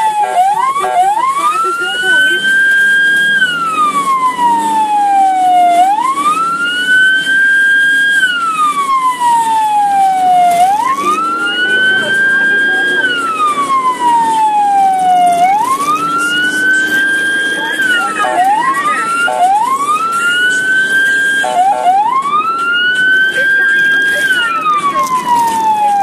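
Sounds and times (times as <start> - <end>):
ambulance siren wailing: 0.0 - 26.0.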